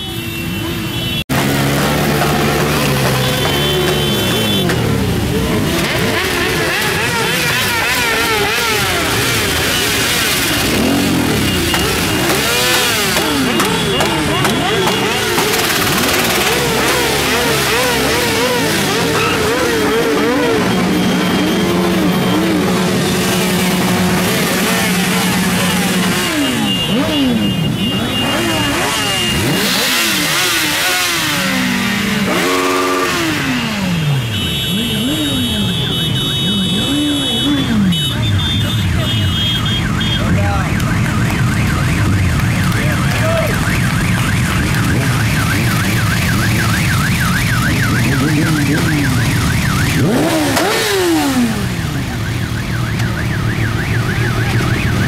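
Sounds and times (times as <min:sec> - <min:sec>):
motorcycles revving engines: 0:00.0 - 0:55.0.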